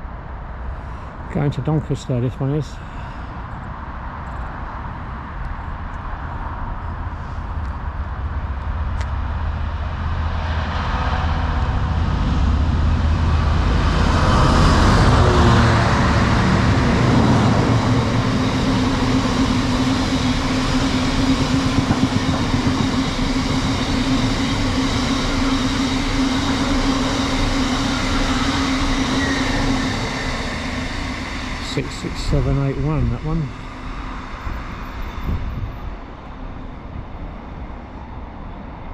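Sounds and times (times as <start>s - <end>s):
diesel locomotive passing: 0.0s - 38.9s
train rolling past: 0.0s - 38.9s.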